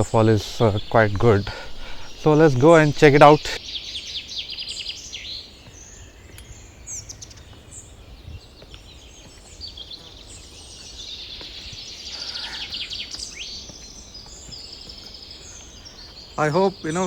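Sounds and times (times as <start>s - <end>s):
birds chirping and trilling: 0.0s - 17.0s.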